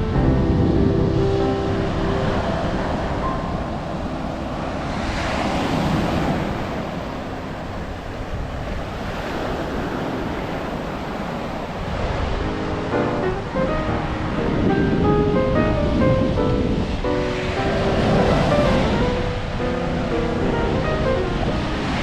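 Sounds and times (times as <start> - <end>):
ocean surf washing onto beach: 0.0 - 22.0
wind rumbling on microphone: 0.0 - 22.0.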